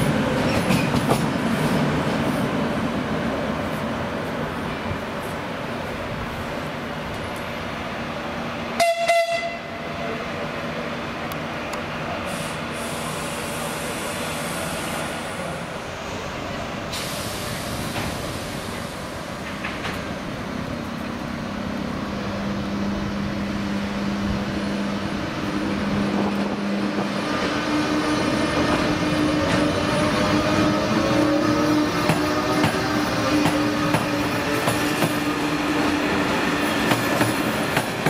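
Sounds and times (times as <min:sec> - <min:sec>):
electric train passing: 0:00.0 - 0:38.0.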